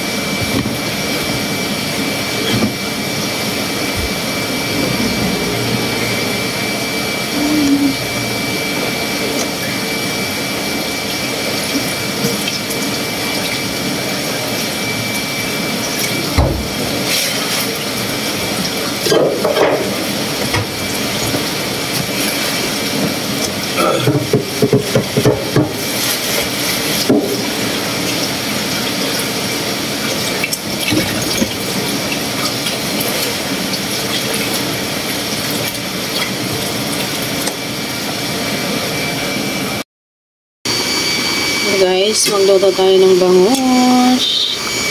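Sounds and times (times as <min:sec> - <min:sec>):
water running in sink: 0:00.0 - 0:39.0, 0:40.7 - 0:44.9.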